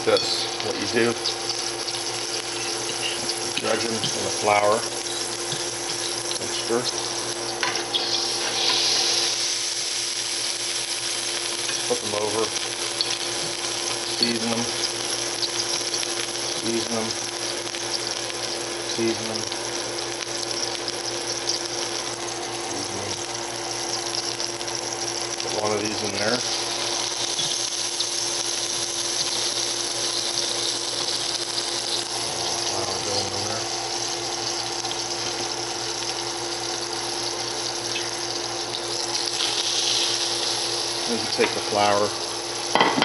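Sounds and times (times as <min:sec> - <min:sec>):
constant low hum: 0:00.0 - 0:43.0
oil sizzling in a frying pan: 0:00.0 - 0:43.0.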